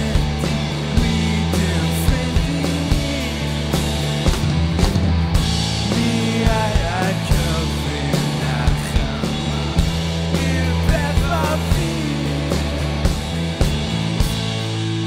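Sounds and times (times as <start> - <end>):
drum kit beat: 0.0 - 15.0
electric bass: 0.0 - 15.0
electric guitar: 0.0 - 15.0.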